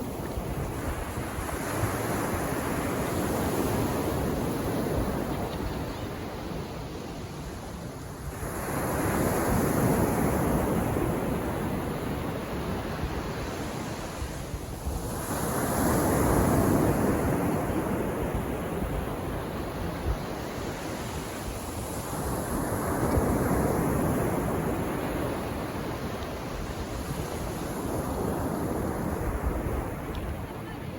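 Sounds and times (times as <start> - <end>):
sea waves breaking on beach: 0.0 - 5.4, 6.1 - 30.9.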